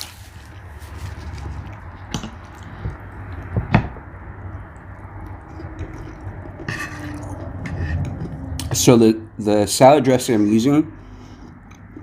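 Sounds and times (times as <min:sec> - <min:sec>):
person chewing food: 0:00.0 - 0:08.8, 0:11.0 - 0:12.0.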